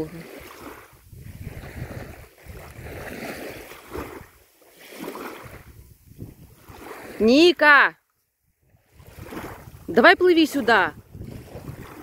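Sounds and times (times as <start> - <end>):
wind gusting on microphone: 0.0 - 7.7, 8.6 - 12.0
choppy river water: 0.0 - 12.0.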